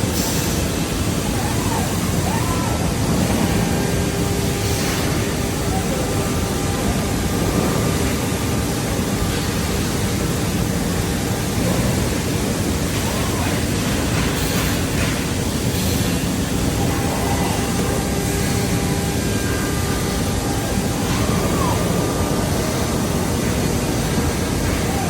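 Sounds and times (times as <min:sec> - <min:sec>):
woodworking machinery running: 0:00.0 - 0:25.0.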